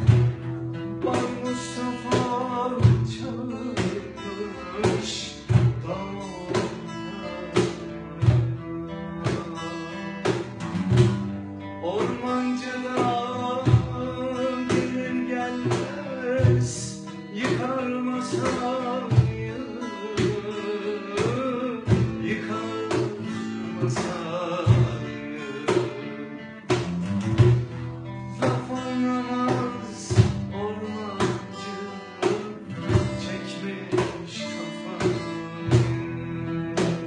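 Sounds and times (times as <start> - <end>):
hand drum strikes: 0.0 - 4.2, 4.8 - 37.0
plucked oud and guitar: 0.0 - 37.0.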